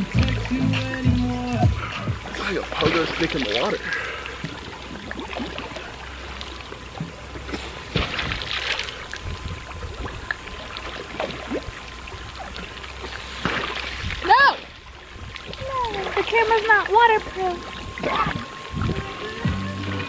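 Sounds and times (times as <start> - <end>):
water splashing: 0.0 - 20.0.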